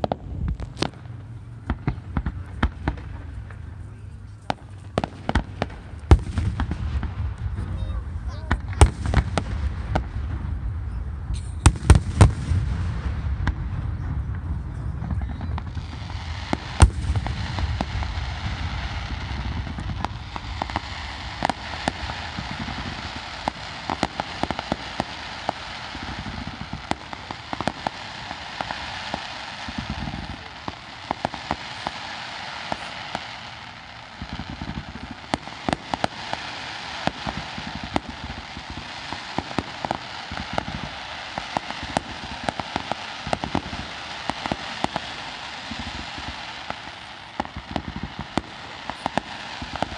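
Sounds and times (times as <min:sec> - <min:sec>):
firework bang: 0:00.0 - 0:49.9
fireworks crackling and popping: 0:00.0 - 0:49.9.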